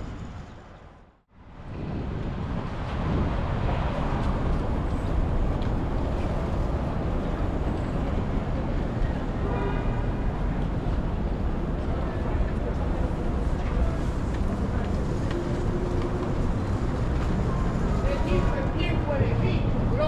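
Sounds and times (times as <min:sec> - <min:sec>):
traffic rumbling: 0:00.0 - 0:20.0.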